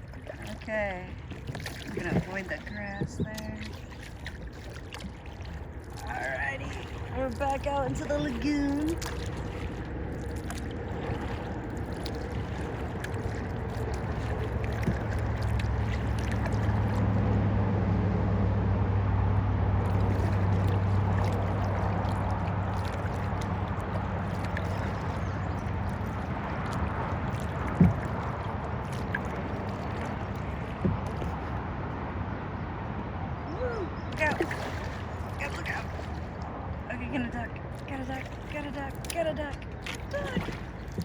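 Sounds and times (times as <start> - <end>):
paddle splashing water: 0.0 - 17.4, 19.7 - 41.0
low steady hum: 0.0 - 41.0.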